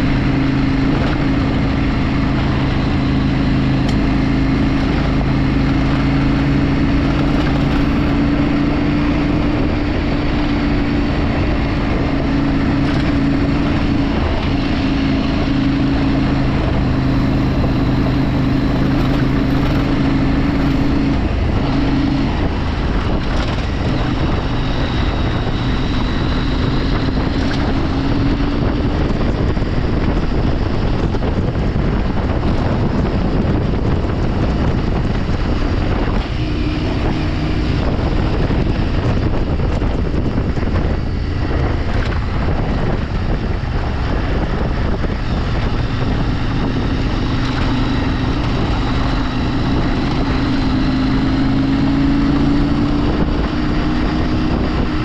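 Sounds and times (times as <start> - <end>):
vehicle engine running: 0.0 - 55.0
wind noise on microphone: 0.0 - 55.0.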